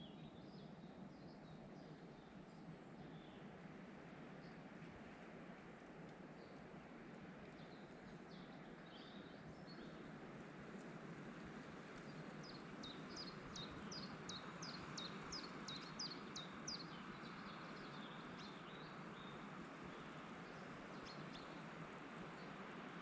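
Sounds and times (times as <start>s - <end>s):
forest ambience: 0.0s - 23.0s.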